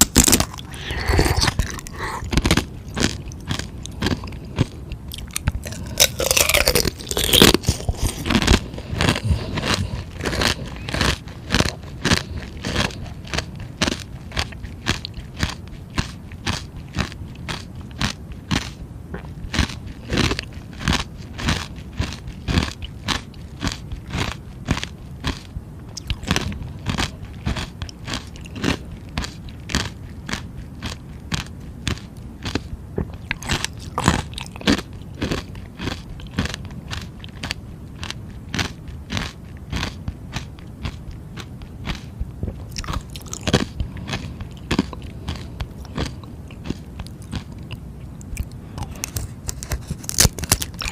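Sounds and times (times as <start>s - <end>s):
crunching frozen treat: 0.0s - 50.9s.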